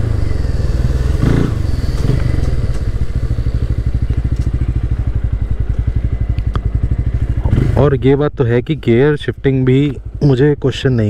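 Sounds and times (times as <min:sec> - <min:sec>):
motorcycle engine slowing to idle: 0:00.0 - 0:11.0.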